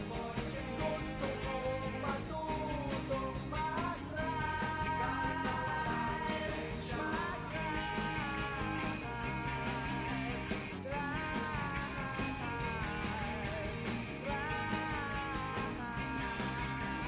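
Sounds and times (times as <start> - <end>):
rock song: 0.0 - 17.0.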